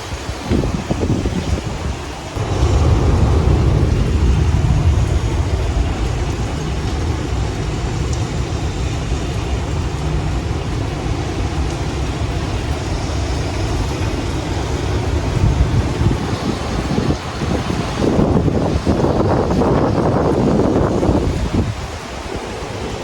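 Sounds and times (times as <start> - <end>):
strong wind roaring: 0.0 - 23.0
wind buffeting microphone: 0.0 - 23.0.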